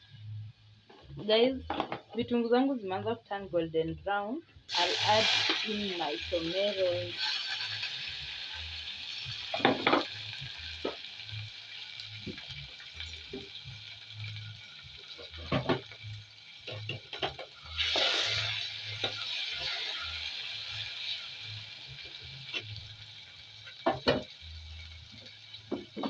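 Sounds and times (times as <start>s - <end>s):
onions sizzling in hot oil: 4.7s - 26.0s.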